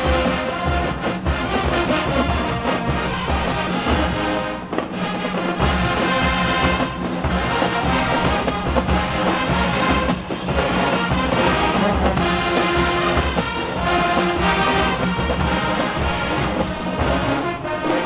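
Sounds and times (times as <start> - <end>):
brass instruments playing: 0.0 - 18.0
marching drums: 0.0 - 18.0.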